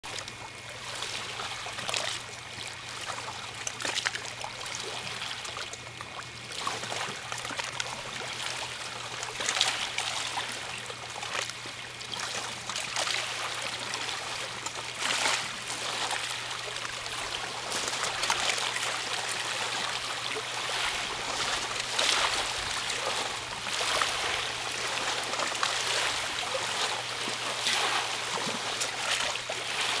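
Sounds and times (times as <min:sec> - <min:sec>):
waves lapping on shore: 0:00.0 - 0:30.0.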